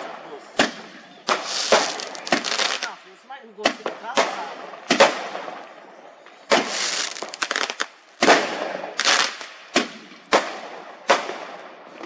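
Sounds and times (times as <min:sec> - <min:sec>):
fireworks bangs: 0:00.0 - 0:03.0, 0:03.6 - 0:12.0
fireworks crackling: 0:00.0 - 0:12.0.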